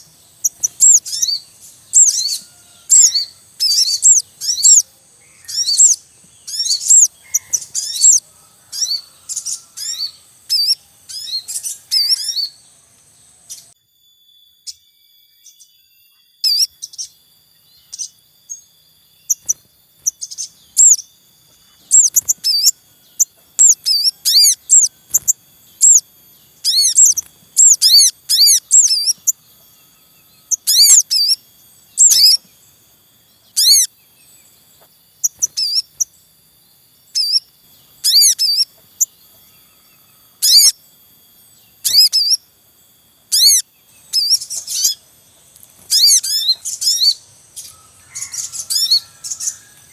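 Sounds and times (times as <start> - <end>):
birds chirping: 0.0 - 49.9
faint high-pitched tones: 0.0 - 49.9.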